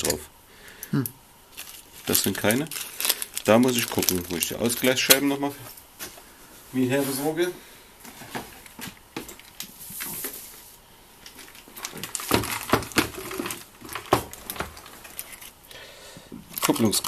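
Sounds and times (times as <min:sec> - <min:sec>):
plastic rustling: 0:01.5 - 0:15.7, 0:16.4 - 0:17.0.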